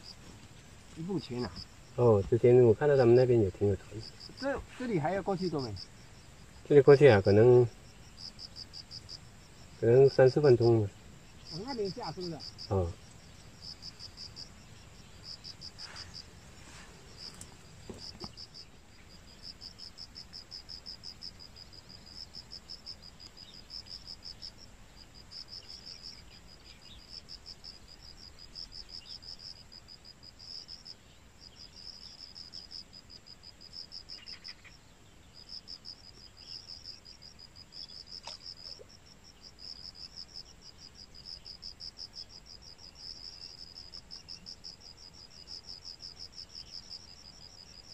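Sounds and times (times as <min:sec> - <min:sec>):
insects trilling: 0:00.0 - 0:47.9.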